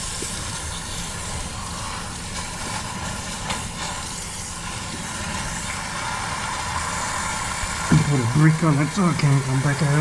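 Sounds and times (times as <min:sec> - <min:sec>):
hose water rushing into pipe: 0:00.0 - 0:10.0.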